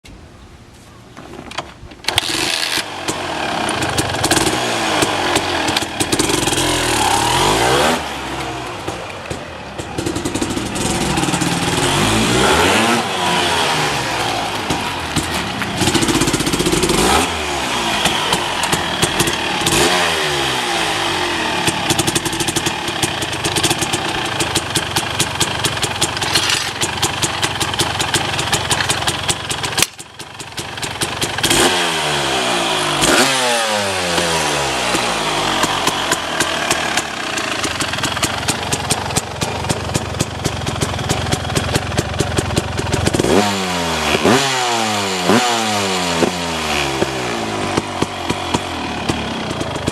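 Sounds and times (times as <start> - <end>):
two-stroke engine revving: 2.1 - 49.9.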